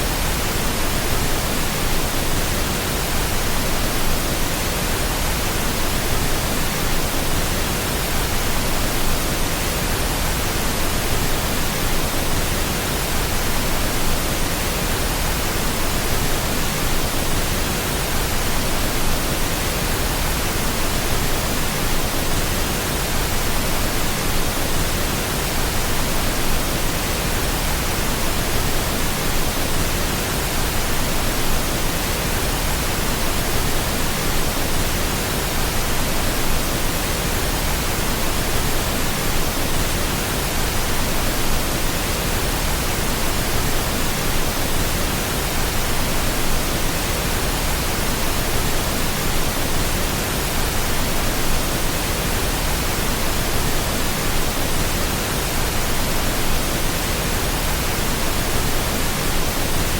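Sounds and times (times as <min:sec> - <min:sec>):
steady pink noise hiss: 0:00.0 - 0:59.9.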